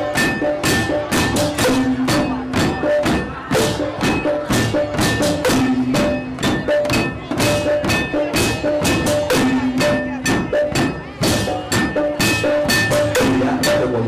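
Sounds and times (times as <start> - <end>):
drums: 0.0 - 14.0
ringing gamelan tones: 0.0 - 14.0
wooden and bamboo percussion: 0.0 - 14.0.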